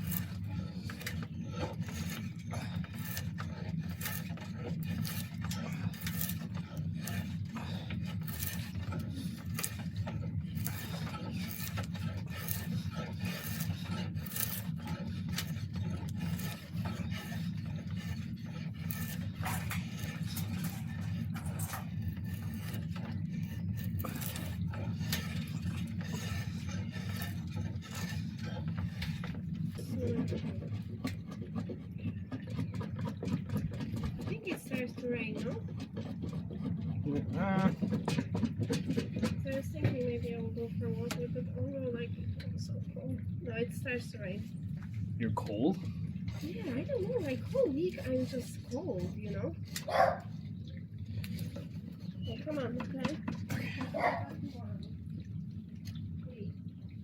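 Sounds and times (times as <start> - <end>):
hand tool scraping wood: 0.0 - 41.9, 45.5 - 50.4, 51.1 - 54.5
steady low hum: 0.0 - 57.0.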